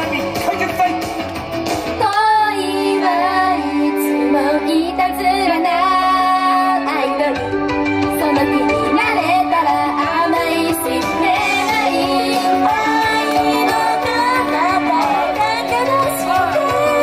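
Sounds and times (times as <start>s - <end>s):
held backing chords: 0.0s - 17.0s.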